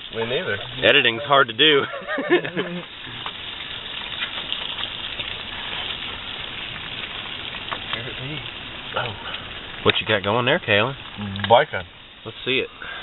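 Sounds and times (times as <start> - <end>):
food sizzling in a frying pan: 0.0 - 12.7.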